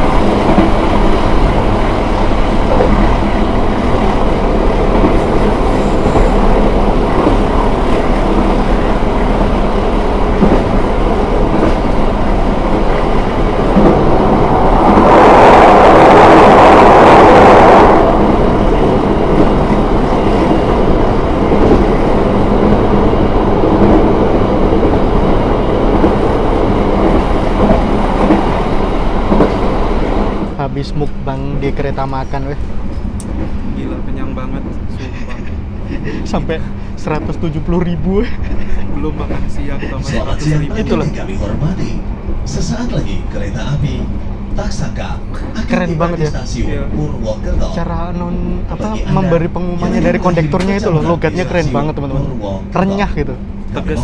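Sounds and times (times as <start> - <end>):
passenger train running on rails: 0.0 - 54.0
train rushing noise: 0.0 - 54.0.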